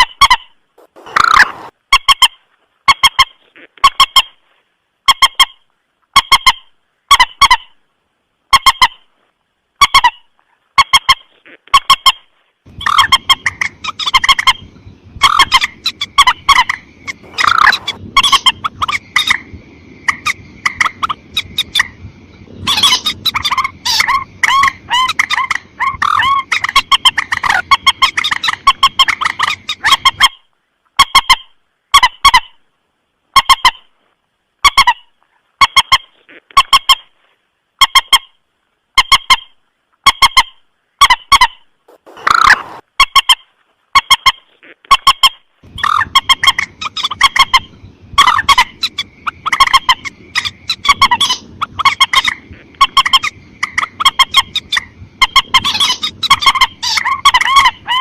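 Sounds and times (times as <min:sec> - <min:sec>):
background hiss: 0:00.0 - 0:41.0, 0:41.6 - 0:58.0.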